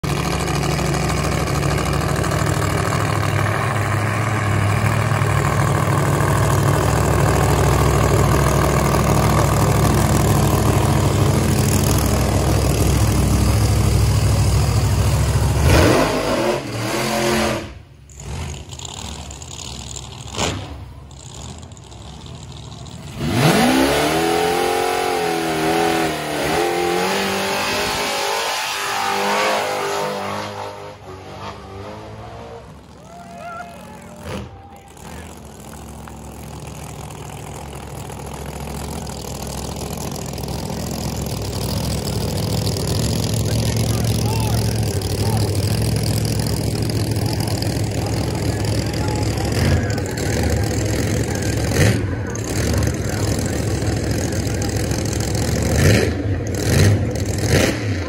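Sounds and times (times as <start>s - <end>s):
race car engines idling: 0.0s - 17.1s, 17.7s - 28.0s, 30.8s - 58.0s
car engine revving: 0.0s - 58.0s.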